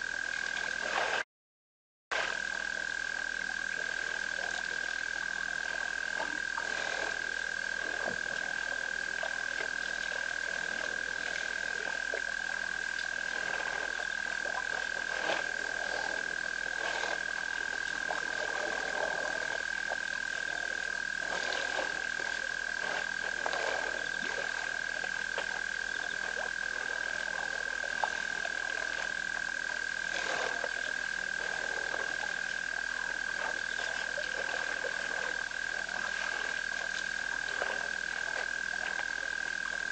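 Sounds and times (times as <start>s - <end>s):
frogs croaking: 2.1s - 39.9s
frogs trilling: 2.2s - 39.9s.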